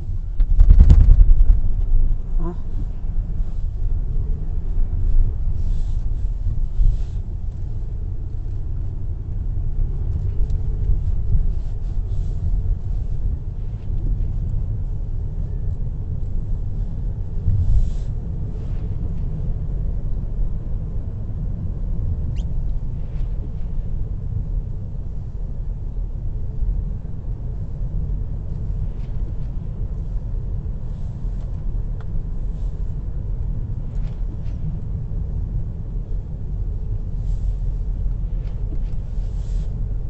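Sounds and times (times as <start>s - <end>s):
car cabin rumble: 0.0s - 40.0s.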